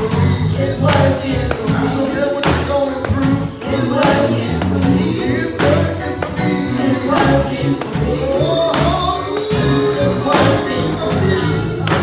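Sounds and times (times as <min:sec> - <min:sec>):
gospel band playing: 0:00.0 - 0:12.0
person singing: 0:00.0 - 0:12.0
tambourine shaken and struck: 0:00.0 - 0:12.0.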